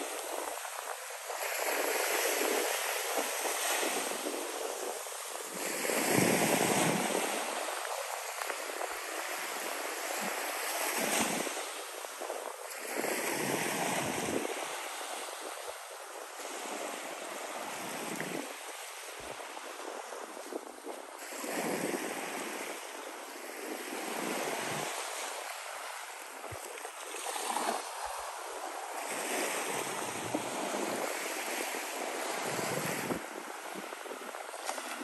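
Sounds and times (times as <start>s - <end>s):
small waves washing on sandy shore: 0.0s - 35.0s.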